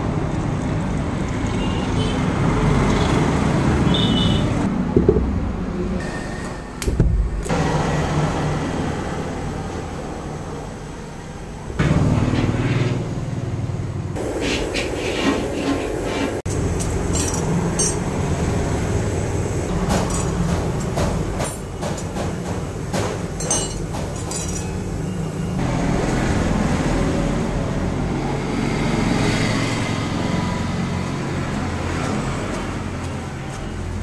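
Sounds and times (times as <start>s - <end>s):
gas burner rumbling: 5.0s - 34.0s.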